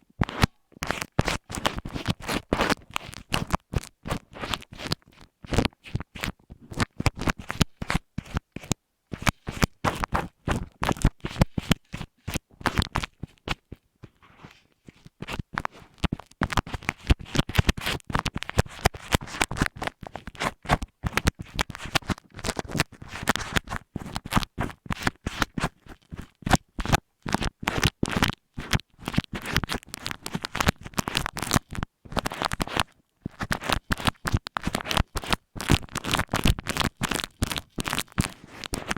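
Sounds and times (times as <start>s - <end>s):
scratching on microphone: 0.2s - 38.9s.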